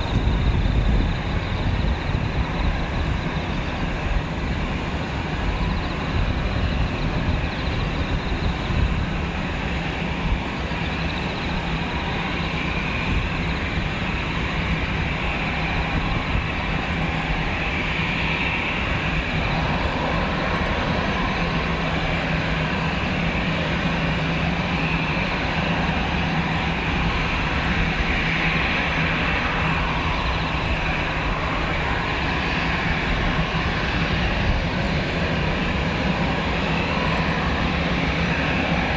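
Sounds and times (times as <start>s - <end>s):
distant jet engines idling: 0.0s - 38.9s.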